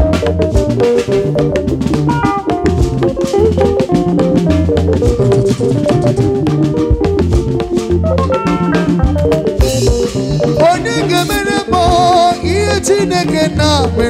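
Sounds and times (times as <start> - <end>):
bass line: 0.0 - 14.0
drum kit beat: 0.0 - 14.0
electronic keyboard chords: 0.0 - 14.0.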